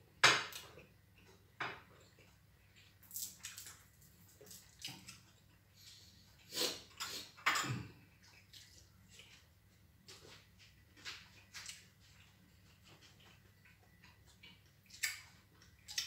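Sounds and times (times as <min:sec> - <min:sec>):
chewing: 0:00.6 - 0:07.4, 0:08.1 - 0:16.0.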